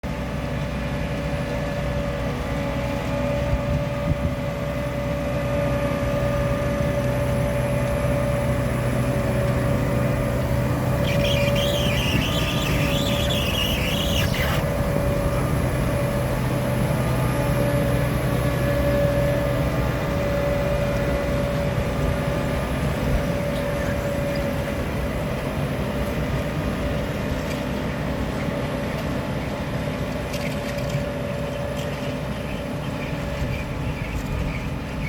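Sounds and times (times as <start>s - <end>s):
harvester engine running: 0.0s - 35.0s.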